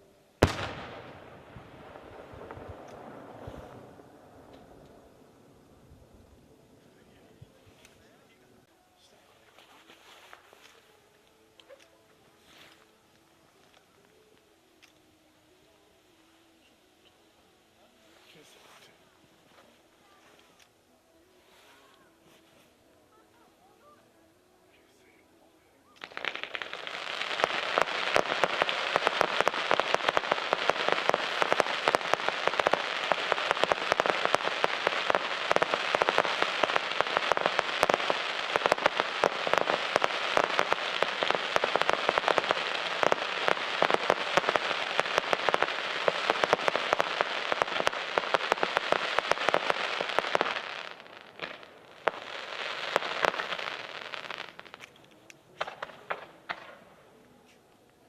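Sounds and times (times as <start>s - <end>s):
fireworks crackling: 0.0s - 23.8s, 25.8s - 58.0s.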